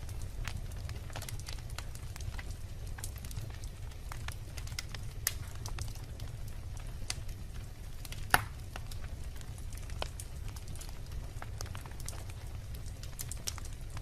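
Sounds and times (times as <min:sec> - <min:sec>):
low fire rumble: 0:00.0 - 0:14.0
wood fire crackling: 0:00.0 - 0:14.0
sharp pops of fire: 0:00.1 - 0:14.0.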